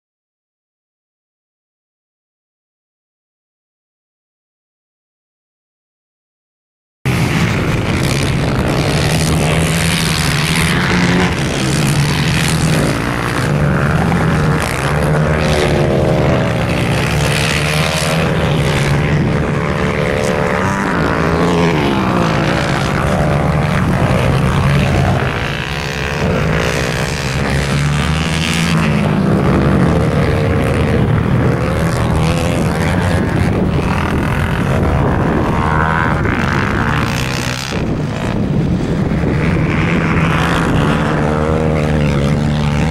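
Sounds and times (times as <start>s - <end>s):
motorcycle engines revving: 7.1s - 42.9s.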